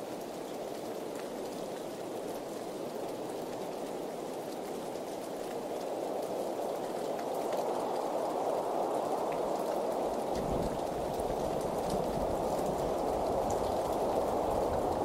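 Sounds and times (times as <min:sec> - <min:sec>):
heavy rainfall: 0:00.0 - 0:15.0.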